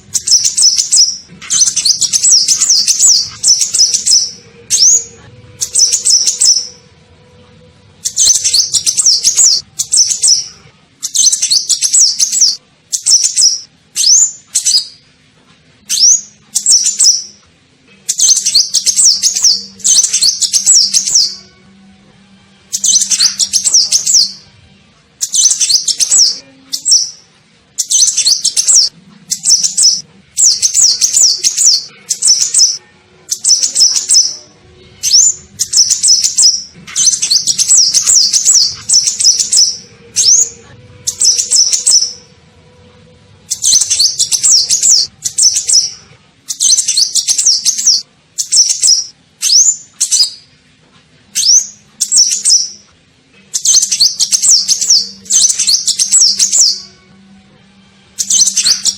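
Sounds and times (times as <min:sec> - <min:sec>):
high twittering bird chirps: 0:00.0 - 0:06.8, 0:08.0 - 0:15.0, 0:15.8 - 0:17.4, 0:18.1 - 0:21.6, 0:22.7 - 0:24.5, 0:25.2 - 0:42.3, 0:43.4 - 0:50.5, 0:51.4 - 0:52.9, 0:53.5 - 0:57.0, 0:58.2 - 0:58.9.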